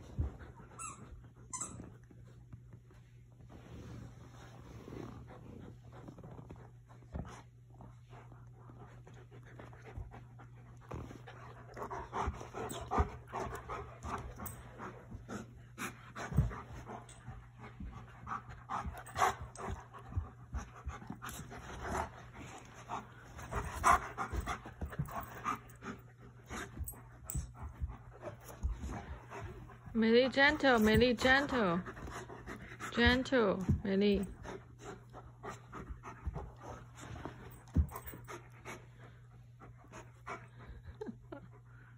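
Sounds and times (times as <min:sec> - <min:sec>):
dogs panting hard: 0:08.2 - 0:41.9.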